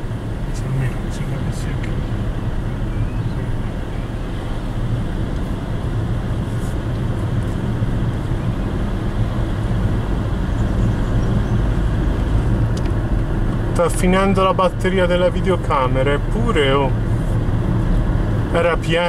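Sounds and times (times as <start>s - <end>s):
car engine and tyre hum: 0.0s - 19.0s.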